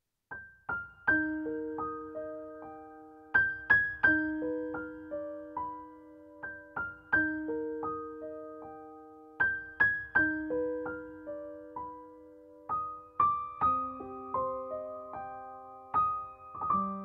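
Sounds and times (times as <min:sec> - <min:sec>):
gentle piano melody: 0:00.3 - 0:17.0.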